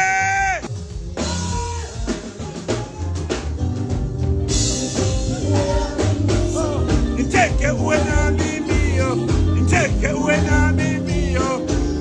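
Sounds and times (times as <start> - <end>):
drum kit beat: 0.0 - 12.0
heavy bass line: 0.0 - 12.0
loud band music: 0.0 - 12.0.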